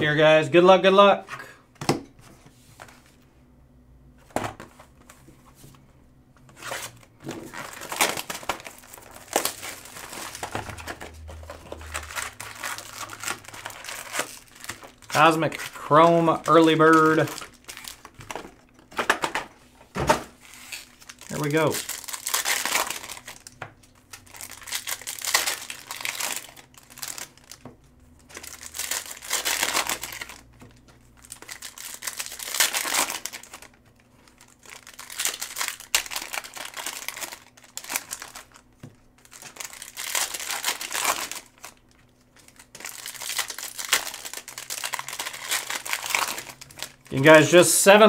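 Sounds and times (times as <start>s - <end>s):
foil wrappers crinkling: 6.5s - 19.4s, 20.3s - 48.0s.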